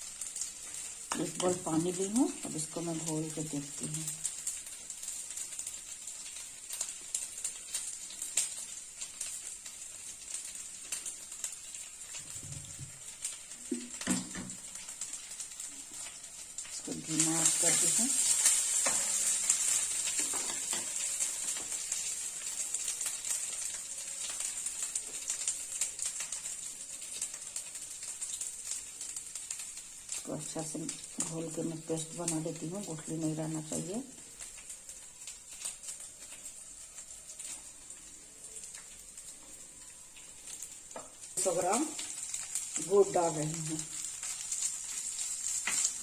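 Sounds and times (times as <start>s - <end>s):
paste frying in ghee: 0.0s - 46.0s.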